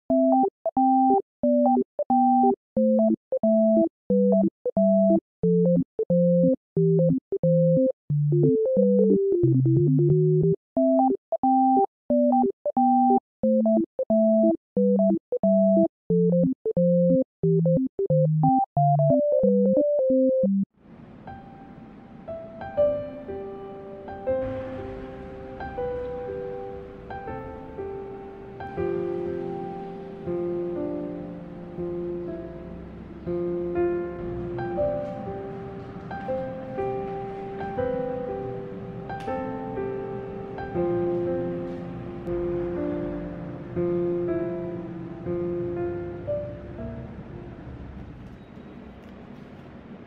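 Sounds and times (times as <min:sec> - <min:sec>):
bouncy synthesizer music: 0:00.1 - 0:20.6, 0:22.7 - 0:47.4.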